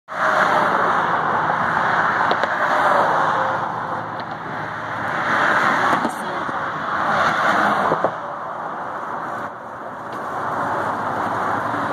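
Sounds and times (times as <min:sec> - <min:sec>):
road traffic rushing: 0:00.1 - 0:11.9.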